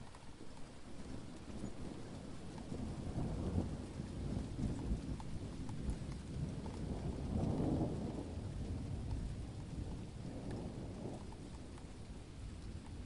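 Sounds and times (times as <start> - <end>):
steady rain falling: 0.0 - 13.0
low rumbling thunder: 1.5 - 13.0.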